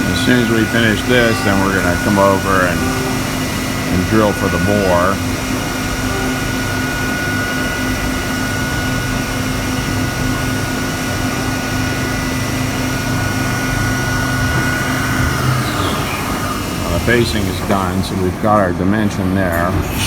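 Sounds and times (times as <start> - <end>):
metal cutting noise: 0.0 - 20.0
milling spindle whine: 0.0 - 20.0.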